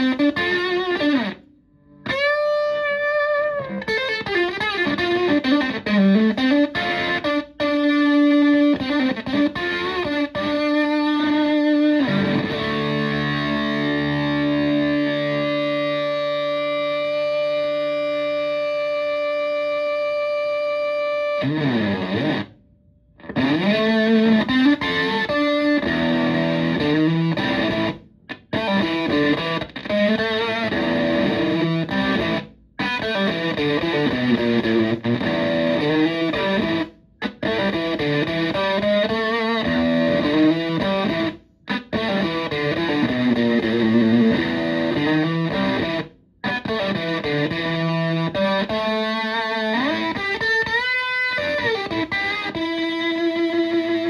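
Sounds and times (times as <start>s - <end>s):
fuzz-distorted electric guitar riffs: 0.0s - 54.0s.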